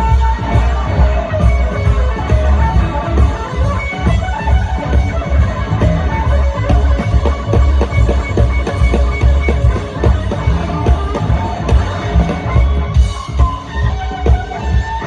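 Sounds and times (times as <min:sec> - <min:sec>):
bass: 0:00.0 - 0:15.0
drums: 0:00.0 - 0:15.0
electric guitar lead: 0:00.0 - 0:15.0.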